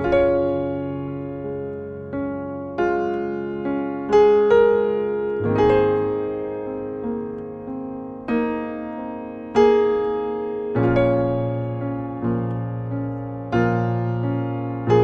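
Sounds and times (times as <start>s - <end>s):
deep bass piano notes: 0.0s - 15.0s
grand piano chords: 0.0s - 15.0s.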